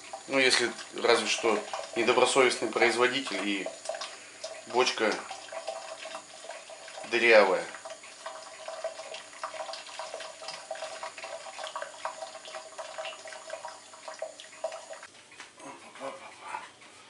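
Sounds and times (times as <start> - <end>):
water pouring and gurgling into barrel: 0.0 - 15.1.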